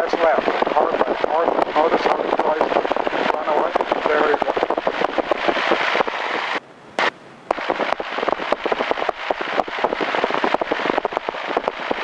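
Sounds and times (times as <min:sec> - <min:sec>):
intercom crackling and popping: 0:00.0 - 0:12.0.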